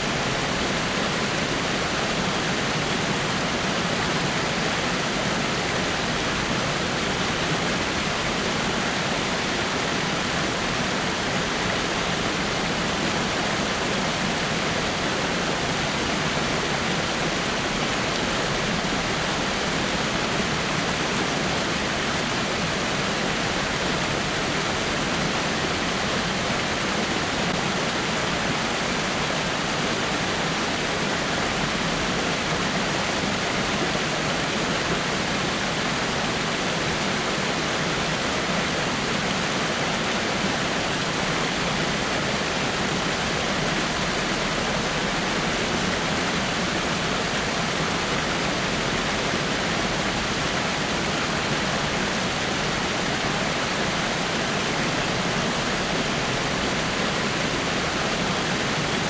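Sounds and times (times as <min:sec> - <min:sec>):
waterfall over rocks: 0:00.0 - 0:59.0.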